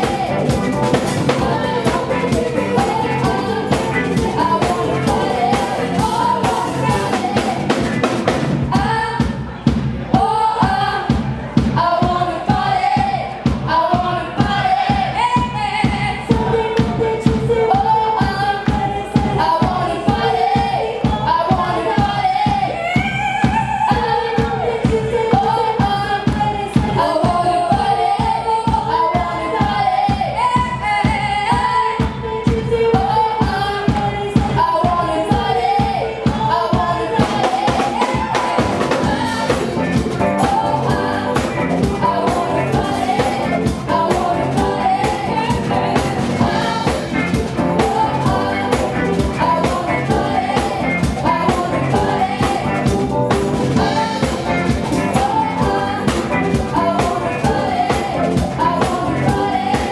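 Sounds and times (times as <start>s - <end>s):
drums beating: 0.0s - 59.9s
women singing pop-rock: 0.0s - 59.9s.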